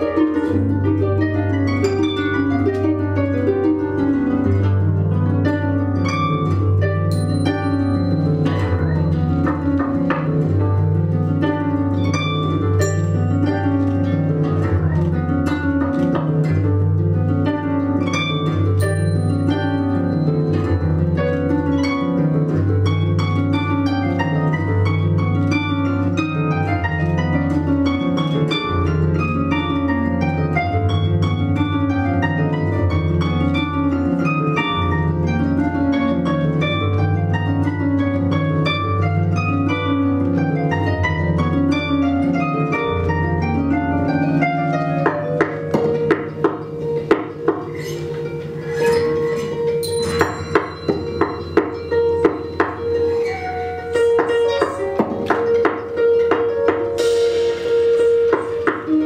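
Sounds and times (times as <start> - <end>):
harps playing: 0.0 - 59.0.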